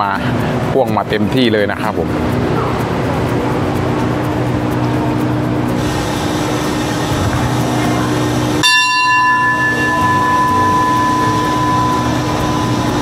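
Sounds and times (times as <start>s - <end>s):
train coaches rolling: 0.0s - 13.0s
high metallic ringing: 2.2s - 13.0s.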